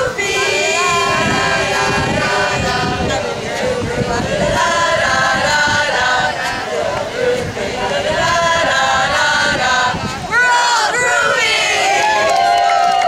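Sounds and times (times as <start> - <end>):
women singing a cheer song: 0.0 - 12.1.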